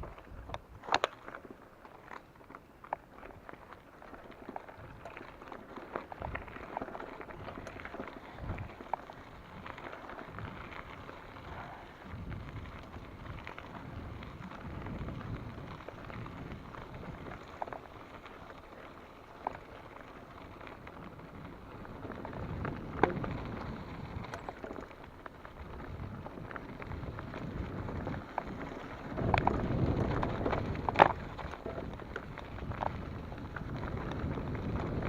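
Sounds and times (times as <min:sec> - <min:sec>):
mountain bike rattling on dirt trail: 0:00.0 - 0:35.0
sharp clacks from bumps: 0:00.0 - 0:35.0.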